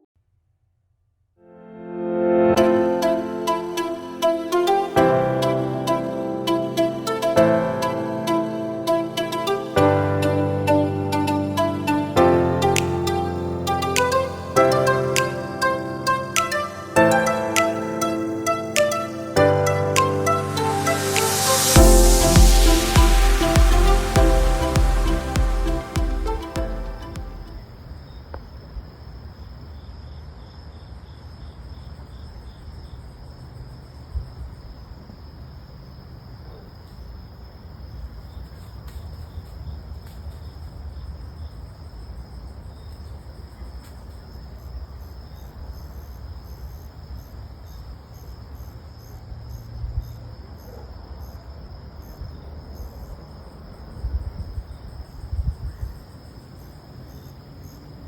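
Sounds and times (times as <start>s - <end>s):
insects chirping: 2.8s - 58.0s.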